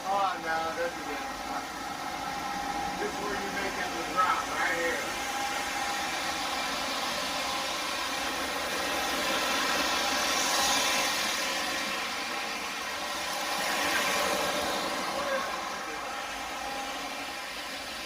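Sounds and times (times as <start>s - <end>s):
model trains running on rails: 0.0s - 18.0s.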